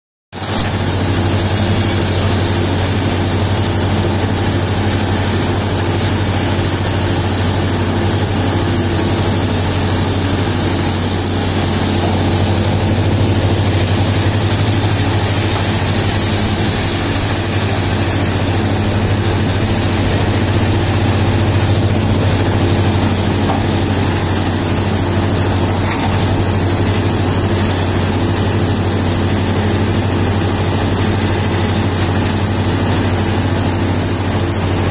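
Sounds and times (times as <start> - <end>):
excavator diesel engine: 0.4 - 34.9
high whine: 0.4 - 34.9.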